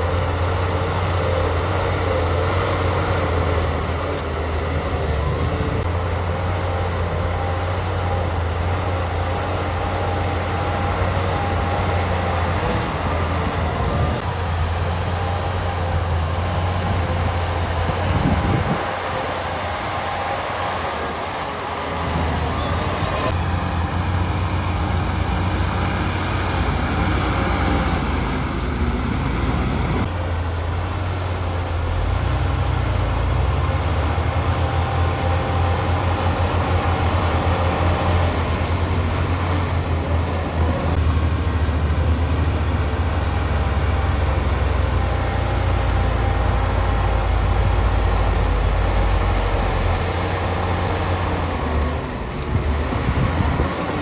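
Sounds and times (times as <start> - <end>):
bulldozer diesel engine drone: 0.0 - 54.0.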